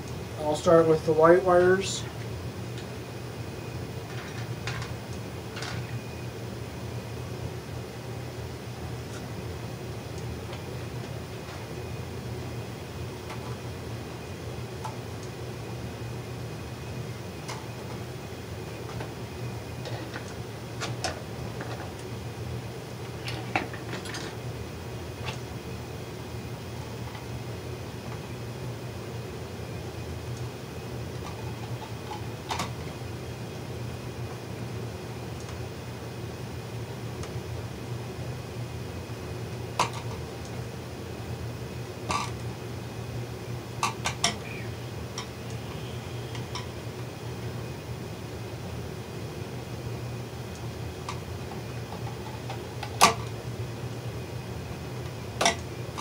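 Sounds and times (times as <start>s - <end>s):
box fan hum: 0.0s - 56.0s.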